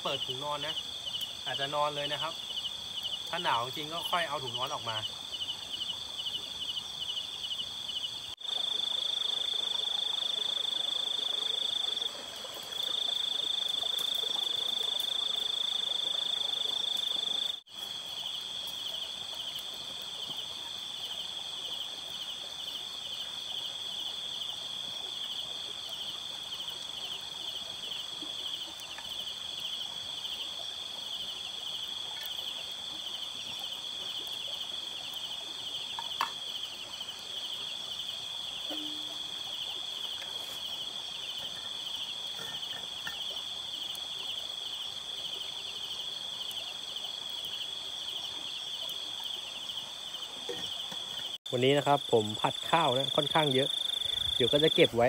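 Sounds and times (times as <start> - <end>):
night insects trilling: 0.0 - 55.0.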